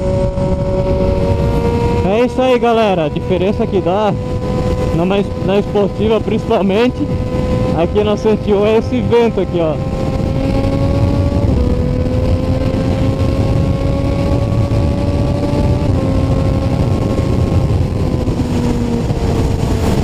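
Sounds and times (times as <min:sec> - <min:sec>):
motorcycle engine humming: 0:00.0 - 0:20.0
wind rushing over microphone: 0:00.0 - 0:20.0.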